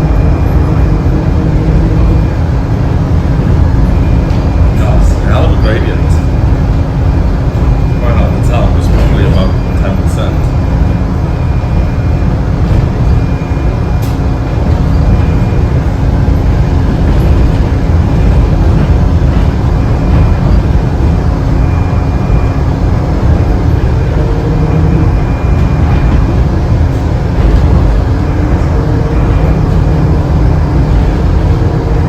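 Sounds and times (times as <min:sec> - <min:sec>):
transit car rumble: 0:00.0 - 0:32.0.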